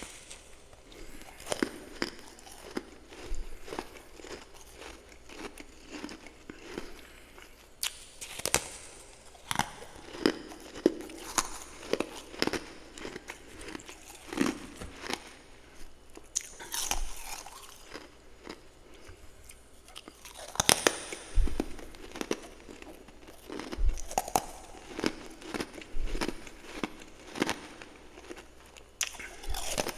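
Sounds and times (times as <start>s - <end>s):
person chewing frost: 0.0s - 29.9s.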